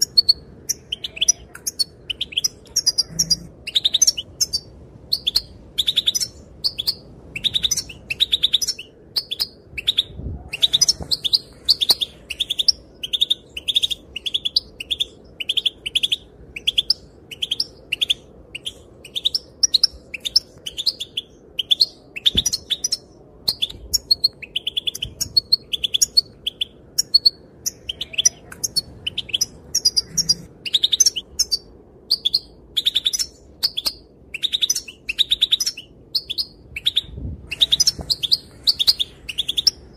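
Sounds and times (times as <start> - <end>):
goldfinch high chirps: 0.0 - 39.8.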